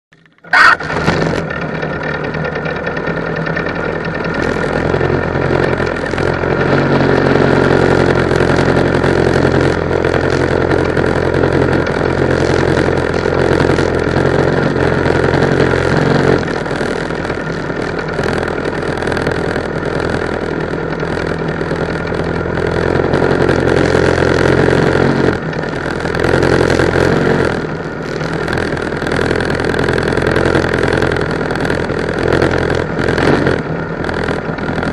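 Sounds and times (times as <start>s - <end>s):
go-kart engines idling: 0.2s - 34.9s.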